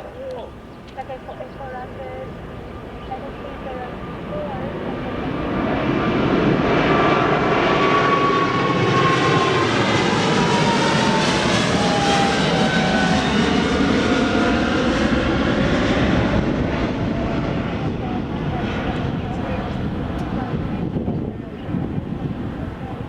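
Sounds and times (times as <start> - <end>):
jet engines passing: 0.0 - 23.0.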